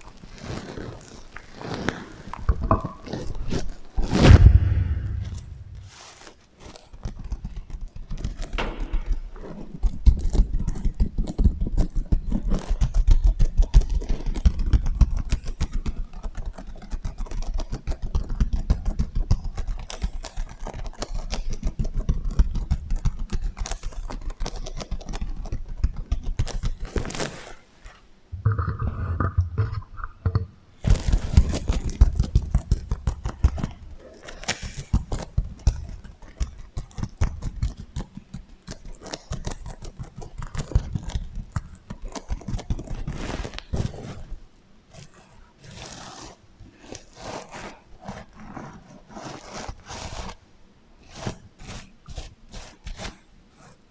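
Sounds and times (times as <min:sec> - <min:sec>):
fingers scratching sequins: 0:00.0 - 0:27.6, 0:30.8 - 0:50.4, 0:51.0 - 0:53.9.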